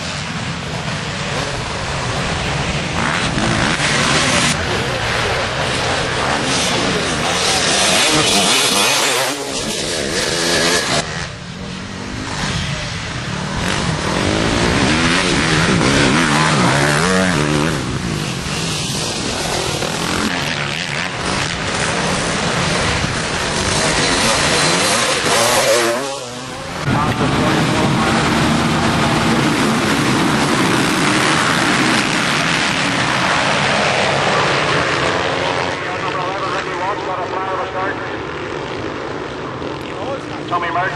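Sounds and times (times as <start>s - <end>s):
loud rushing noise: 0.0s - 40.9s
motocross bike engines revving: 0.0s - 40.9s.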